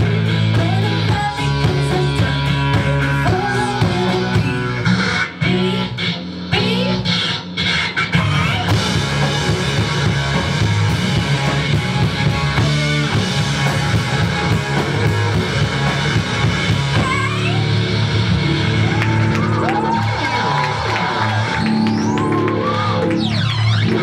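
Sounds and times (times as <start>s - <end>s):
drum kit playing: 0.0s - 24.0s
electric bass guitar: 0.0s - 24.0s.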